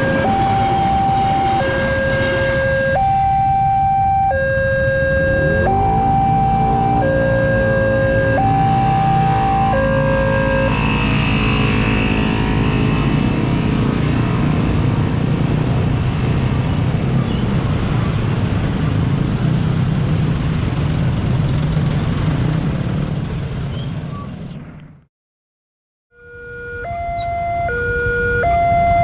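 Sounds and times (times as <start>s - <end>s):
rumble of heavy traffic: 0.0s - 25.1s, 26.2s - 29.0s.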